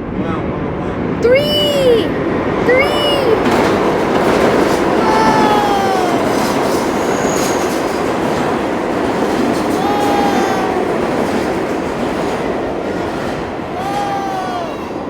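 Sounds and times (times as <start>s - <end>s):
subway train rumble and clatter: 0.0s - 15.0s.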